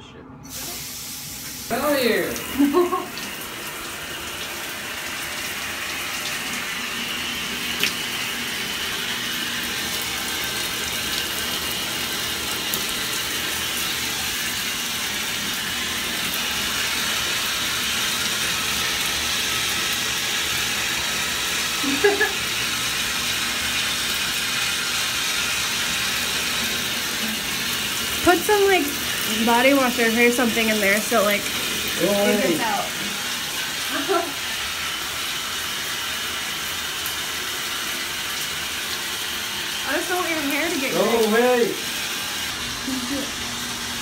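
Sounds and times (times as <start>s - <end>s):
shower spray running: 0.4s - 44.0s.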